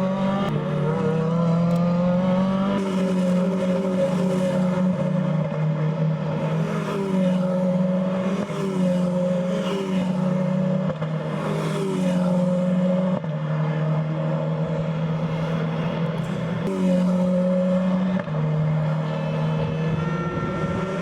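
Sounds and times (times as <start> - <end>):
race car engine at high revs: 0.0 - 21.0.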